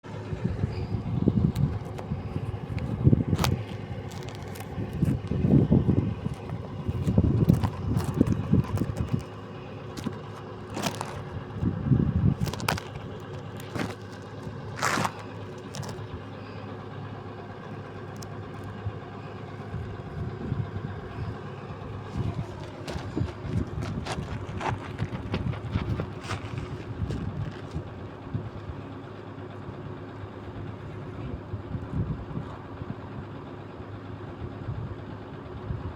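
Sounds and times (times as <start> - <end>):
excavator diesel engine rumbling: 0.0 - 35.9.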